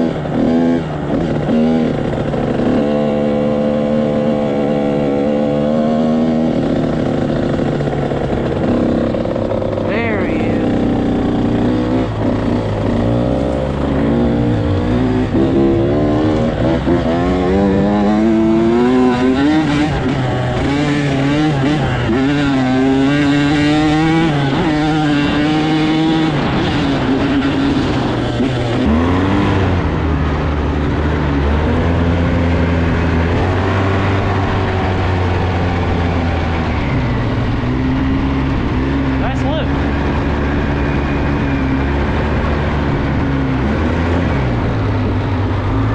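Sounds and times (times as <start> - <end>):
engine revving: 0.0 - 45.9.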